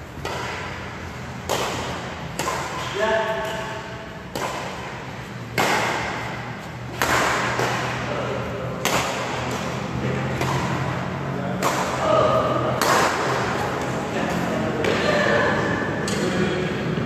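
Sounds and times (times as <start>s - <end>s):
rackets striking shuttlecock: 0.1s - 15.0s, 15.6s - 16.4s.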